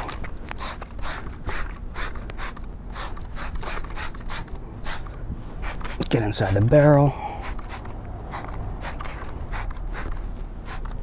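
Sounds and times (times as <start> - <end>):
trigger spray bottle hissing: 0.6 - 6.6, 7.4 - 11.0.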